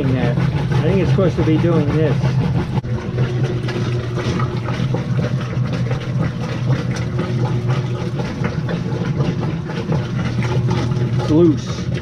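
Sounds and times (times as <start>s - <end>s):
agitator clicks and splashes: 0.0s - 12.0s
washing machine motor hum: 0.0s - 12.0s.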